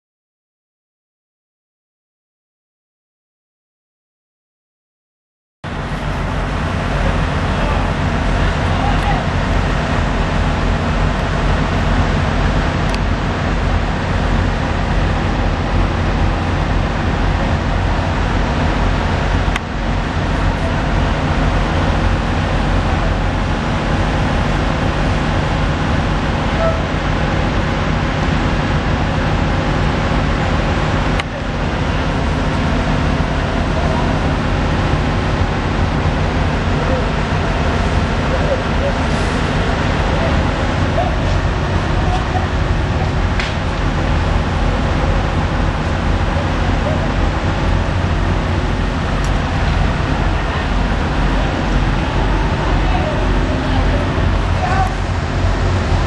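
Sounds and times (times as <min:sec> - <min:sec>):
heavy vehicle engine and road noise: 0:05.6 - 0:56.0.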